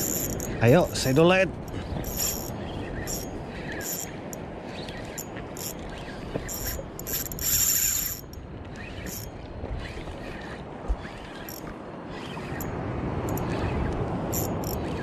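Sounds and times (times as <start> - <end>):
fishing reel cranking: 0.0 - 15.0
water and wind noise: 0.0 - 15.0.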